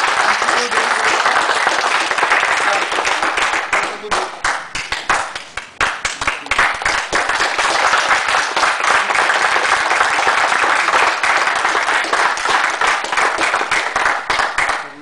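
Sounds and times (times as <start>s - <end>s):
audience applause: 0.0s - 15.0s.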